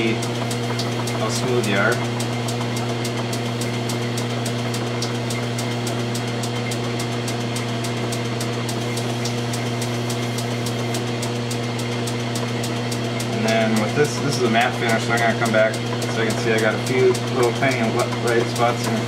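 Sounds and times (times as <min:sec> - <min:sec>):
metal lathe motor hum: 0:00.0 - 0:19.0
fast regular ticking: 0:00.2 - 0:19.0.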